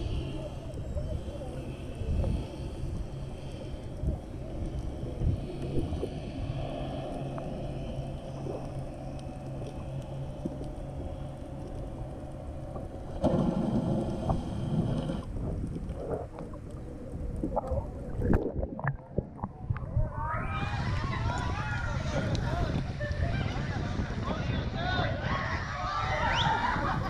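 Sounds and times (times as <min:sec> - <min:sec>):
underwater low rumble and hum: 0:00.0 - 0:27.0
water noise: 0:00.0 - 0:27.0.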